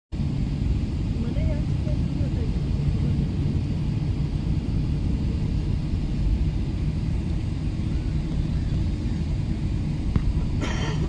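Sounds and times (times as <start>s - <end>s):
airliner cabin rumble: 0.1s - 11.0s
faint steady hum: 0.2s - 11.0s.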